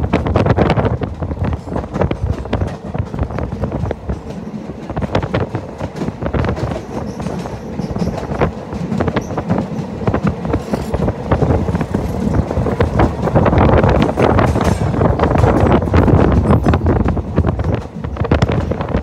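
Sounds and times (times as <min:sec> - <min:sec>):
train rumble: 0:00.0 - 0:19.0
train wheels clacking: 0:00.0 - 0:19.0.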